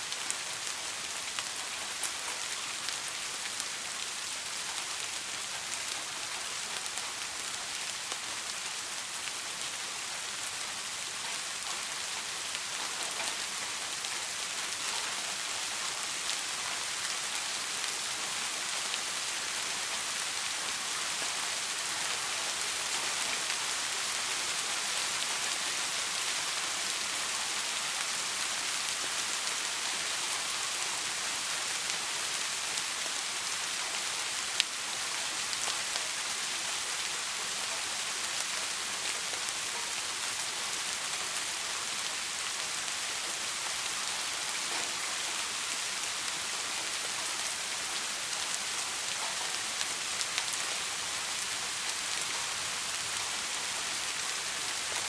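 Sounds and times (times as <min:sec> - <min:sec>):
soft rain hiss: 0:00.0 - 0:55.0
faint raindrop ticks: 0:00.1 - 0:55.0.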